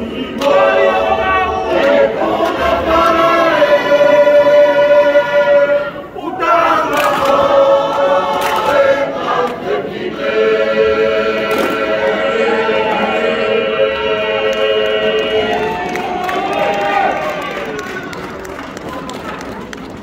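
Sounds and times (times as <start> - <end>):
choir singing in harmony: 0.0 - 16.6.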